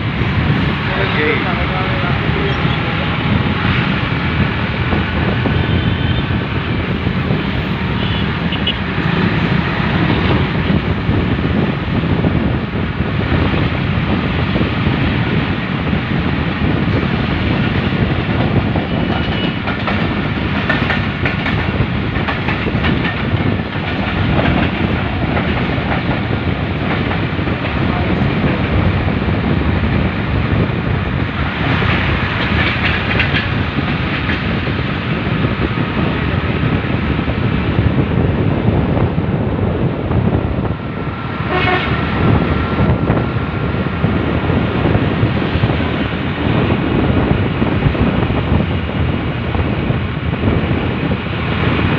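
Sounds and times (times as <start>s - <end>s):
train rumbling on track: 0.0s - 51.9s.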